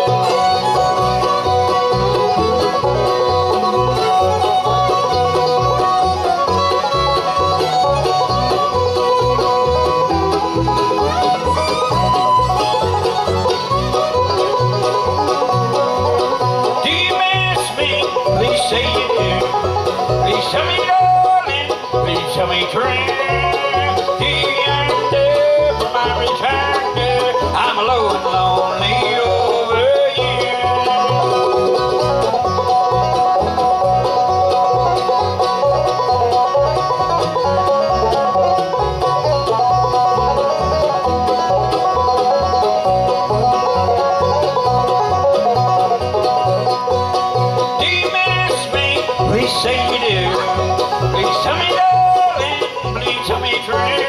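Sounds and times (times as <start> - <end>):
acoustic guitar: 0.0 - 54.0
banjo: 0.0 - 54.0
fiddle: 0.0 - 54.0
mandolin: 0.0 - 54.0
upright bass steady beat: 0.0 - 54.0.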